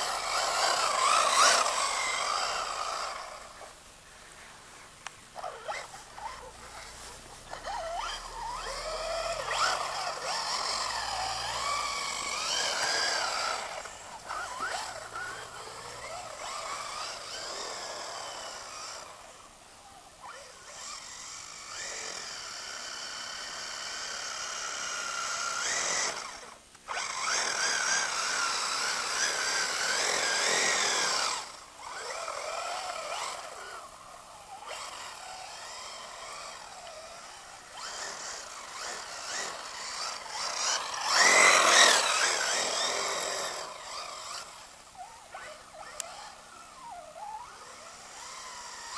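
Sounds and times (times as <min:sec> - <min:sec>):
electric motor whining: 0:00.0 - 0:03.7, 0:05.4 - 0:19.4, 0:20.2 - 0:48.9.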